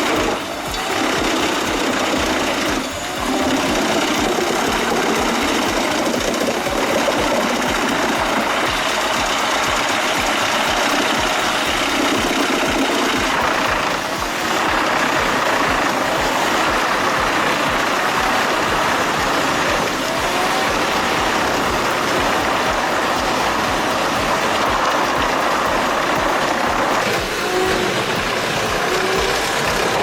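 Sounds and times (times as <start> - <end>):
heavy machine engine running: 0.0 - 30.0.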